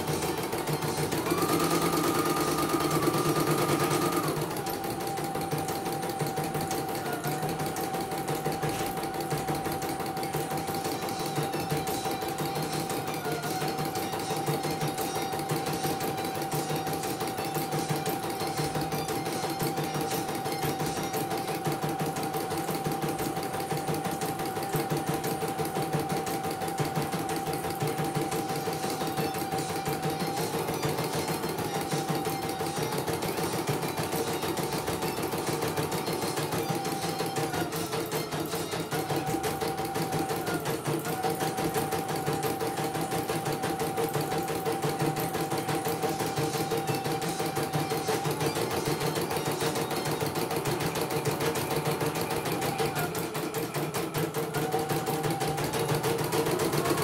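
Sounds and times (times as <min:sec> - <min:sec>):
embroidery machine stitching: 0:00.0 - 0:57.0.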